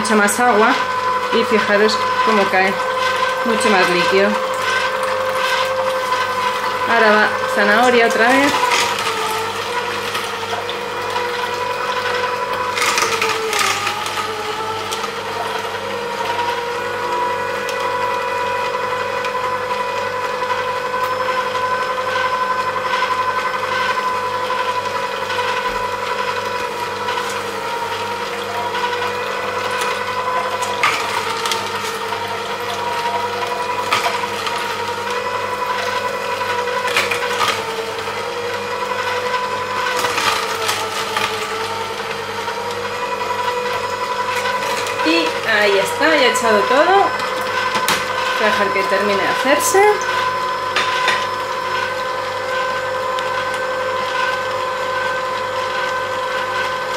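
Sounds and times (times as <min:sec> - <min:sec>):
juicer motor humming: 0:00.0 - 0:56.9.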